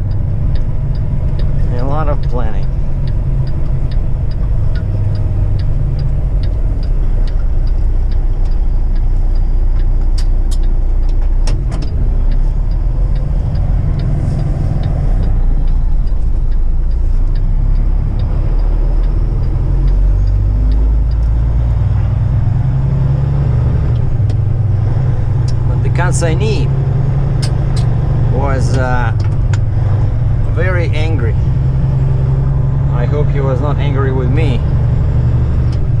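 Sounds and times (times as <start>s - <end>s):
sharp clicks: 0.0s - 22.6s, 23.7s - 36.0s
light regular ticking: 0.0s - 36.0s
truck engine and road rumble: 0.0s - 36.0s.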